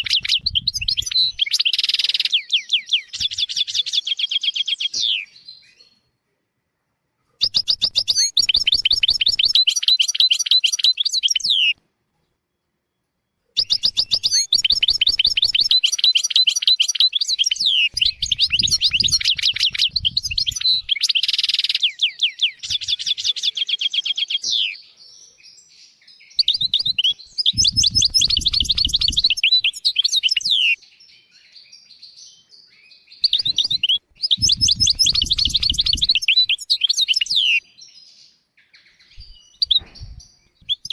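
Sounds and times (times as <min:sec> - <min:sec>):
goldfinch singing: 0:00.0 - 0:05.8, 0:07.4 - 0:11.8, 0:13.6 - 0:24.8, 0:25.5 - 0:40.9.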